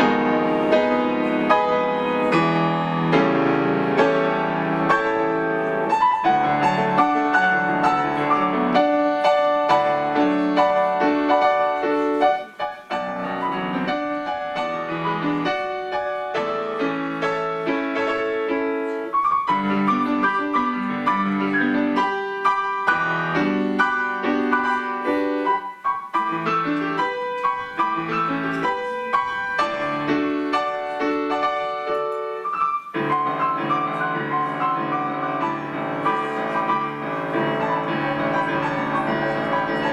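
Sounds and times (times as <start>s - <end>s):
grand piano playing quick notes: 0.0s - 39.9s.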